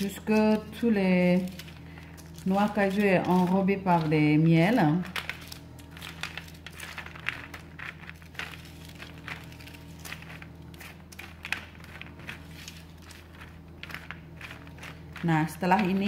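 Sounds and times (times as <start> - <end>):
parchment paper crinkling: 0.0 - 16.0
steady low hum: 0.0 - 16.0.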